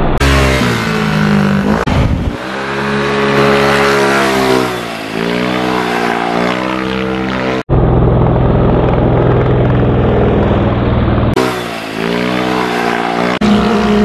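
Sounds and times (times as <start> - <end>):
scooter engines passing: 0.2 - 14.0.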